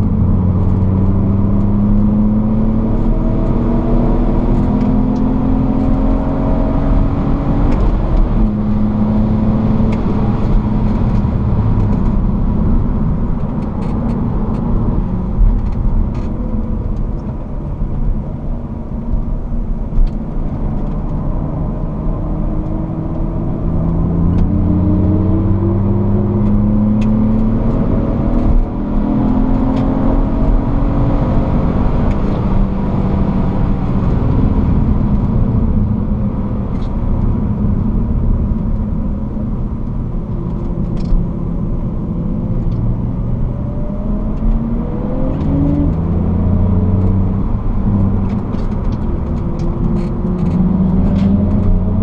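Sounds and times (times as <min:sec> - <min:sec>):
car engine accelerating: 0:00.0 - 0:52.0
road and wind noise: 0:00.0 - 0:52.0.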